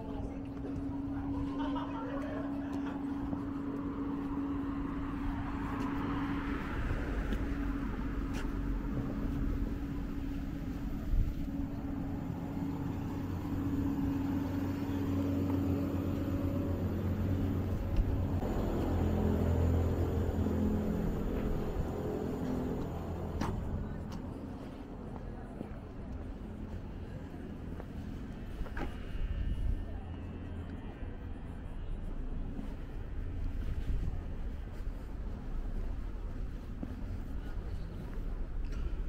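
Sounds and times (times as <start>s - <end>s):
heavier engine: 0.0s - 39.0s
steady engine hum: 0.0s - 39.0s.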